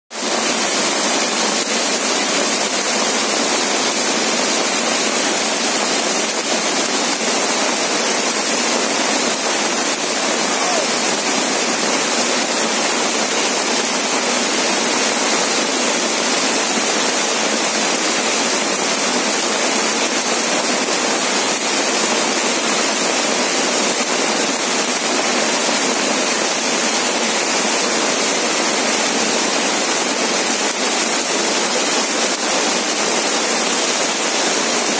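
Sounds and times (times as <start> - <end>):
heavy rain and hail pelting: 0.1 - 34.9.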